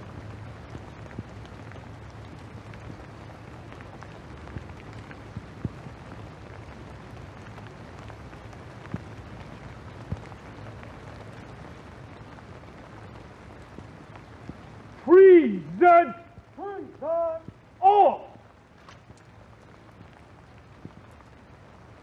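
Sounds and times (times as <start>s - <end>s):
rain on wet pavement: 0.0s - 22.0s.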